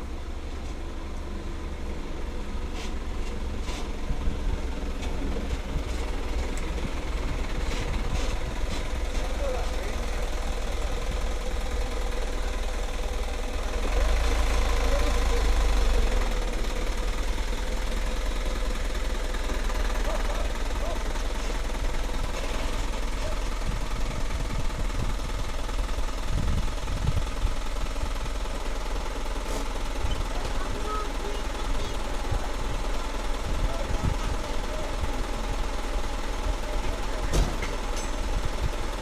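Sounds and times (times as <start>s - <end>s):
dump truck engine running: 0.0s - 39.0s.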